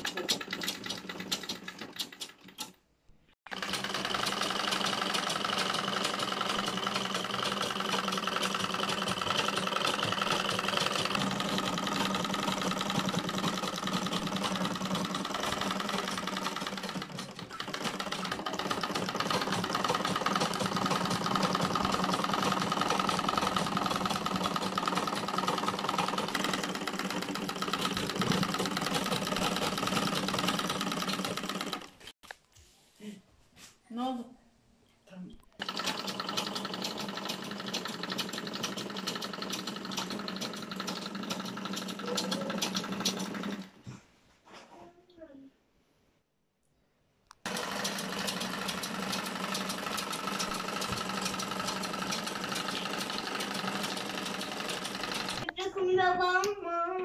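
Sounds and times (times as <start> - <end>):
treadle sewing machine running: 0.0 - 2.7, 3.5 - 32.1, 35.6 - 43.8, 47.4 - 55.5.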